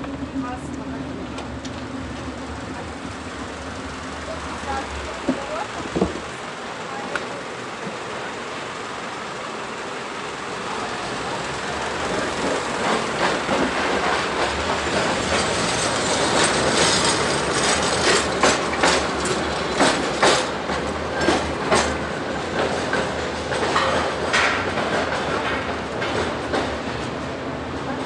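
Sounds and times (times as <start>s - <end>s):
street traffic hiss: 0.0s - 26.0s
tram motors humming: 0.0s - 28.0s
tram wheels clacking over rail joints: 0.0s - 28.0s.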